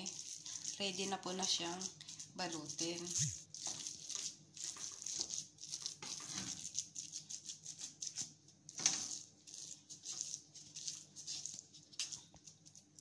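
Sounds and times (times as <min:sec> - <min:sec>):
wooden spoon squishing minced meat: 0:00.0 - 0:13.0.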